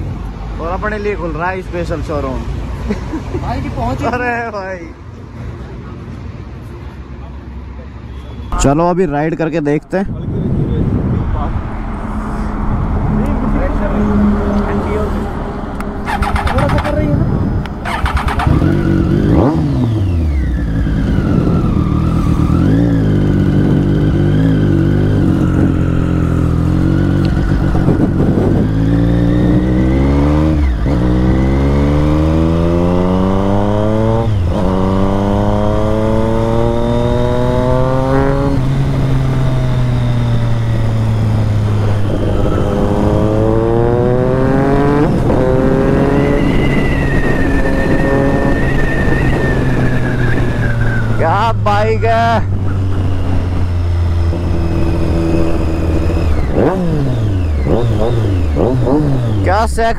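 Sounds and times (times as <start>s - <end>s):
motorcycle engine accelerating: 10.4s - 59.7s.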